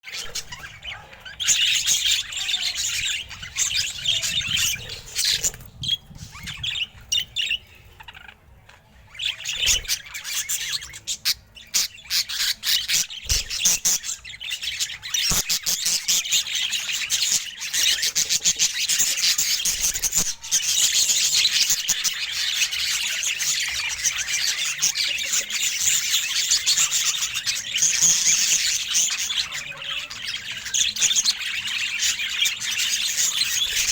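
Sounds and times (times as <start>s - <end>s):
budgerigar chirping and squawking: 0.0s - 8.5s, 9.2s - 33.9s.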